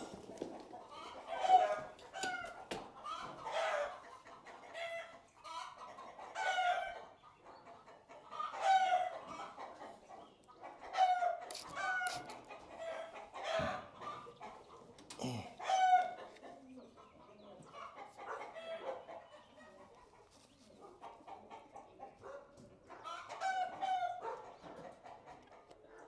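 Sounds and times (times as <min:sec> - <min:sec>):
chickens calling: 0:00.0 - 0:26.0.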